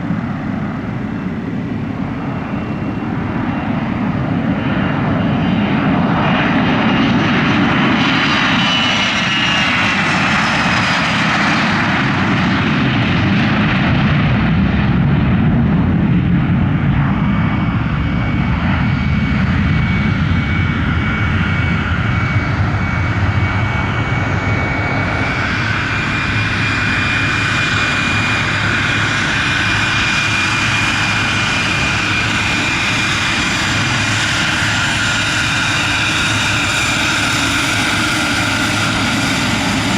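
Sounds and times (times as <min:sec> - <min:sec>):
aircraft engine whine: 0:00.0 - 0:39.9.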